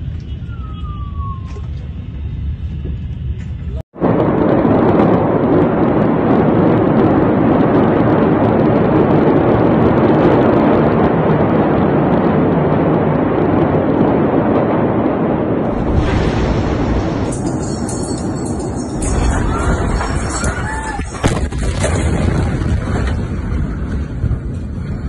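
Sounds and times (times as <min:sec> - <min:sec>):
fire roaring rumble: 0:00.0 - 0:25.0
fire crackling: 0:04.0 - 0:25.0.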